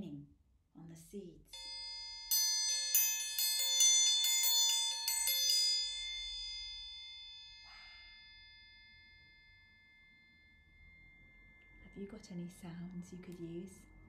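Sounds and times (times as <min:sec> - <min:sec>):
metal triangle rolled and ringing: 0:01.5 - 0:14.0.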